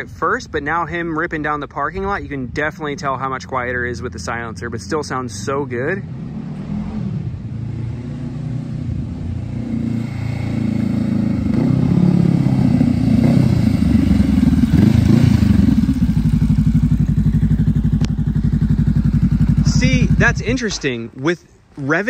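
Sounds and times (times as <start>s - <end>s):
motorcycle engine: 2.4s - 21.2s.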